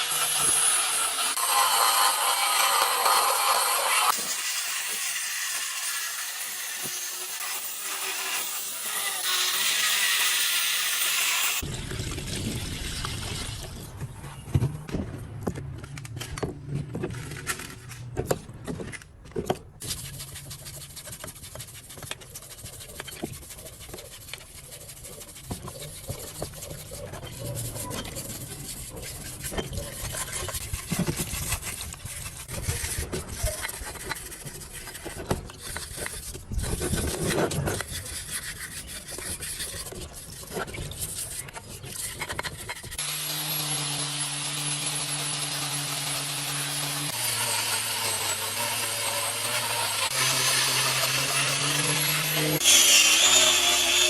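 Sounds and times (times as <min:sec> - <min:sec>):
hand tools scraping metal: 0:00.0 - 0:54.0.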